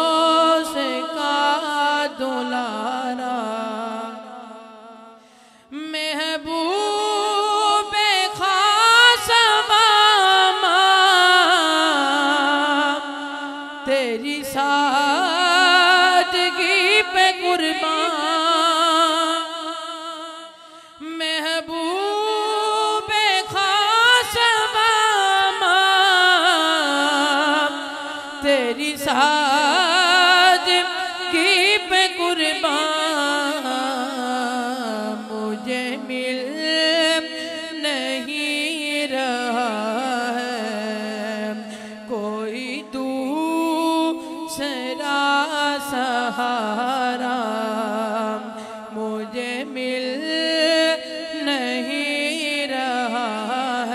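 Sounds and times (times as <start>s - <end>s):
man singing devotional song: 0.0s - 53.9s.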